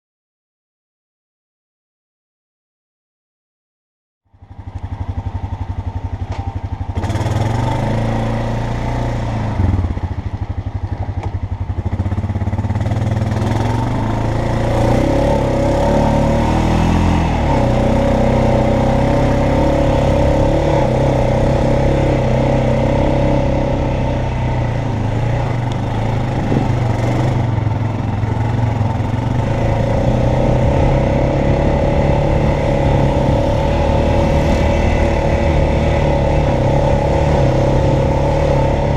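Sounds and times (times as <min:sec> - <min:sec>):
atv engine running: 0:04.3 - 0:38.9.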